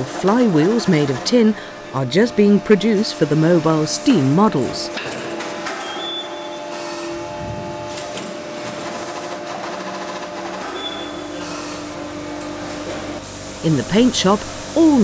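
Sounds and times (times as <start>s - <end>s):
factory machinery humming: 0.0s - 15.0s.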